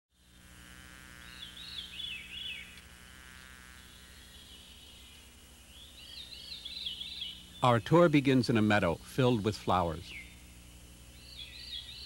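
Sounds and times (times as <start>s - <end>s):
insect buzz: 0.1s - 12.0s.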